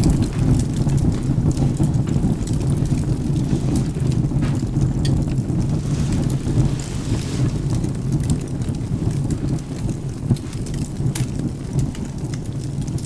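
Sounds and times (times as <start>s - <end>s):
thunder rumbling: 0.0s - 12.6s
rain: 0.0s - 13.0s
wood fire crackling: 0.0s - 13.0s.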